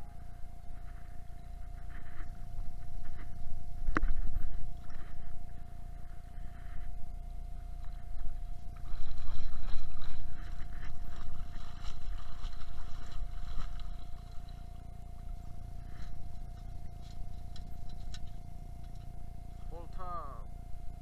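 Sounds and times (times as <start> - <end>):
faint steady tone: 0.0 - 21.0
low rumble: 0.0 - 21.0.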